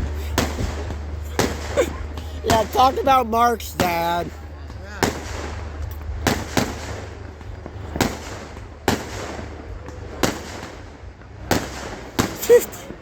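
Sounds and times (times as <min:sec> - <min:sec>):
low rumble: 0:00.0 - 0:12.2
fireworks bangs: 0:00.0 - 0:13.0.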